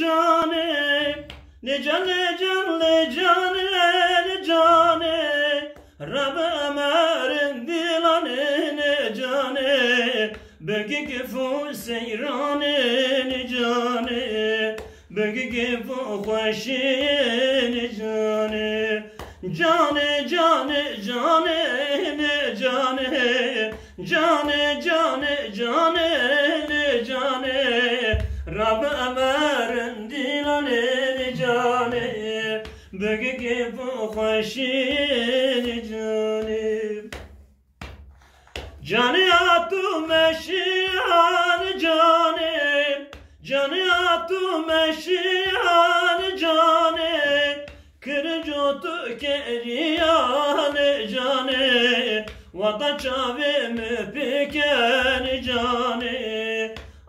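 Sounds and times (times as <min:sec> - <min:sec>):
man singing unaccompanied: 0:00.0 - 0:38.0, 0:38.6 - 0:57.0.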